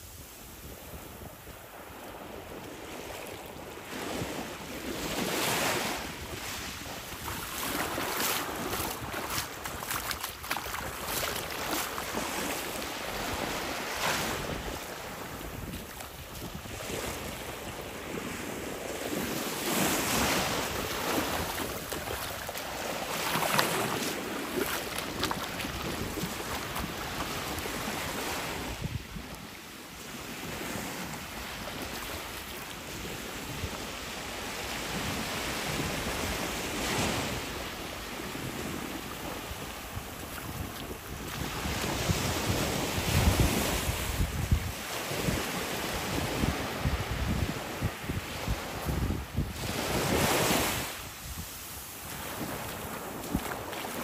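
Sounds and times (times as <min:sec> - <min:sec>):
small waves washing on shore: 0:00.0 - 0:54.0
wind buffeting microphone: 0:03.6 - 0:29.6, 0:34.8 - 0:54.0.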